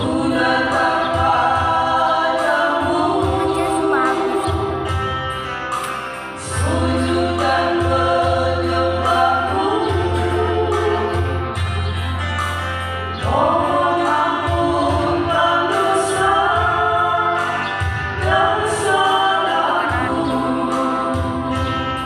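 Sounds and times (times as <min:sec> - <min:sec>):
women singing in harmony: 0:00.0 - 0:04.9, 0:06.4 - 0:11.4, 0:13.2 - 0:22.0
low backing music: 0:00.0 - 0:22.0.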